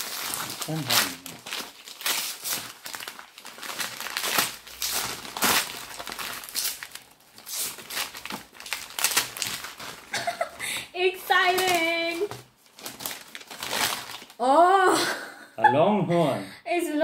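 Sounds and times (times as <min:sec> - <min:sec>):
wrapping paper crinkling and tearing: 0:00.0 - 0:14.4.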